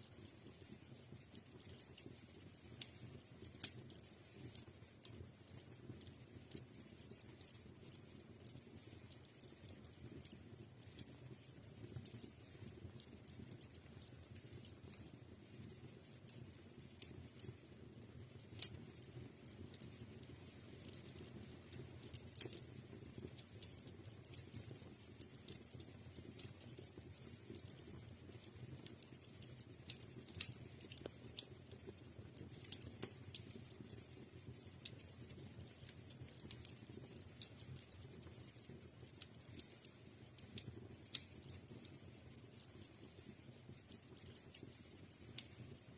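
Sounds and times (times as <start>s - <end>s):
low steady hiss: 0.0s - 45.9s
wood fire crackling: 0.0s - 45.9s.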